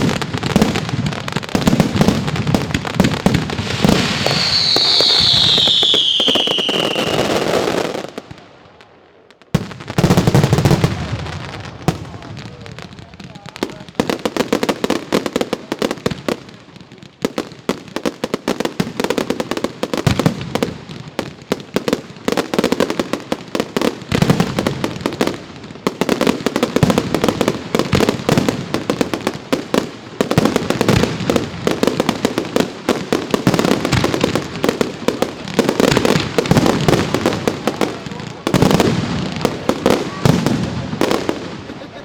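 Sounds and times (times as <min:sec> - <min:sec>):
fireworks cracking and banging: 0:00.0 - 0:42.0.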